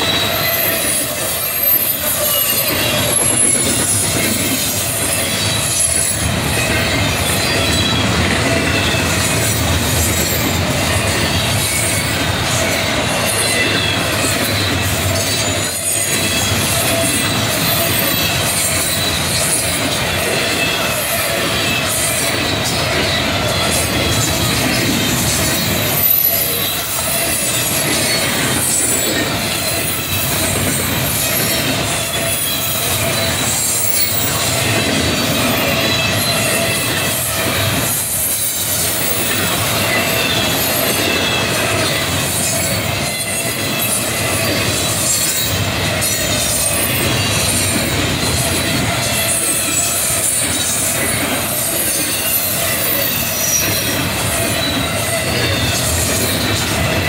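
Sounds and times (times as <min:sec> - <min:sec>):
freight train rumble: 0:00.0 - 0:57.0
wheel squeal: 0:00.0 - 0:57.0
wheels clicking over rail joints: 0:00.1 - 0:57.0.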